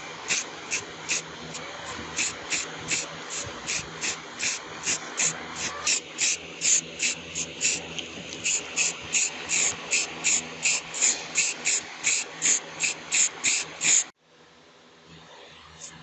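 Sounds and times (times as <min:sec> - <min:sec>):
spray paint hissing bursts: 0:00.0 - 0:14.1.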